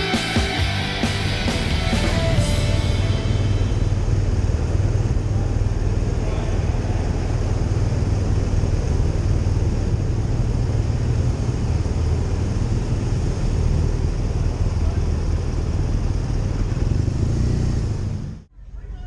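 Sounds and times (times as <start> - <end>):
motorcycle engine drone: 0.0 - 19.0.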